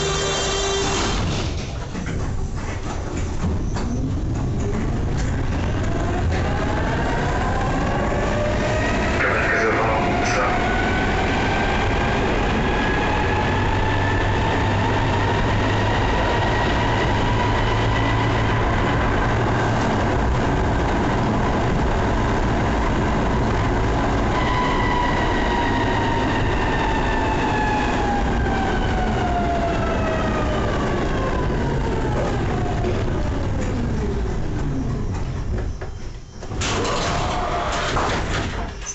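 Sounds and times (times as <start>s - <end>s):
tram electric motor whine: 0.0s - 2.2s, 3.9s - 38.9s
tram rumbling on rails: 0.0s - 38.9s.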